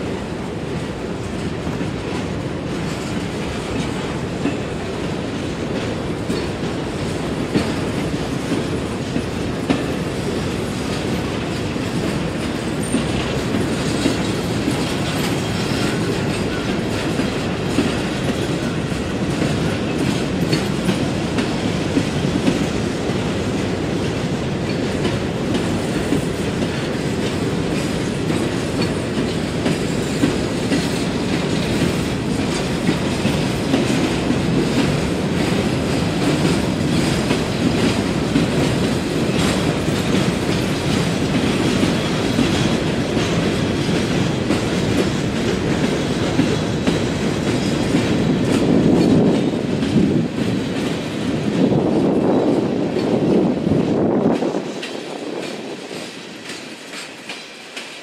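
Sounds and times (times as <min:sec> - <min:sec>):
train cars rolling past: 0:00.0 - 0:58.0
wheels clicking over rail joints: 0:00.1 - 0:58.0.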